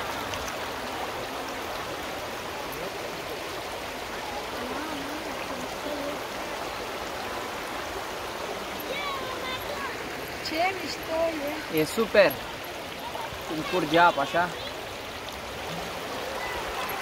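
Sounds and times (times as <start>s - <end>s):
river rushing over stones: 0.0s - 17.0s.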